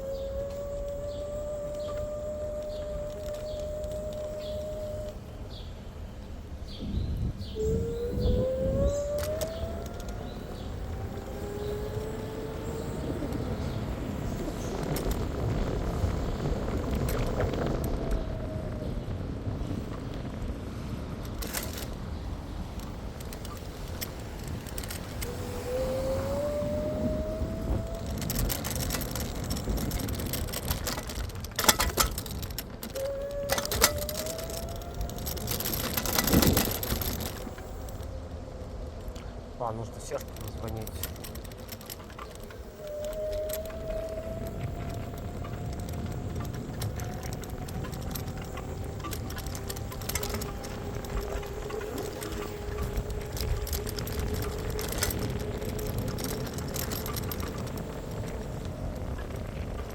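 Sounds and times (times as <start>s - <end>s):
electric scooter motor whining: 0.0s - 59.9s
road and wind rumble: 0.0s - 59.9s
sharp rattles: 7.4s - 59.9s.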